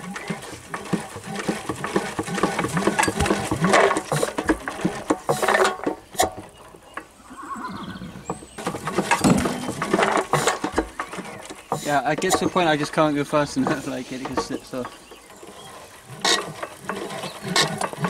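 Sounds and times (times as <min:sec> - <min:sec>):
diesel engine hand-cranked clanking: 0:00.0 - 0:07.2, 0:08.2 - 0:18.0.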